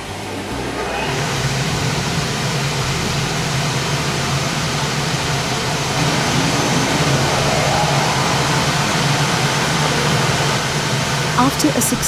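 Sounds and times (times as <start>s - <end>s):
constant low hum: 0.0s - 12.0s
washing machine rushing: 0.8s - 12.0s.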